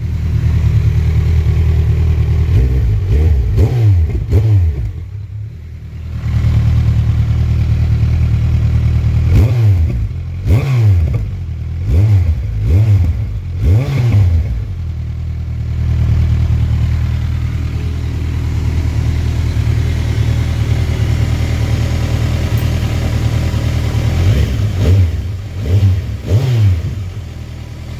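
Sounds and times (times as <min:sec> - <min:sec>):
motorcycle engine idling: 0:00.0 - 0:27.9
motorcycle engine revving: 0:00.0 - 0:27.9.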